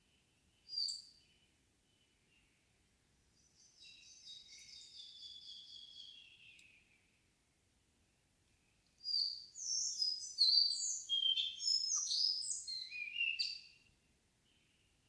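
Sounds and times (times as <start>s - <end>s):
songbird singing: 0.0s - 7.3s, 8.5s - 15.0s.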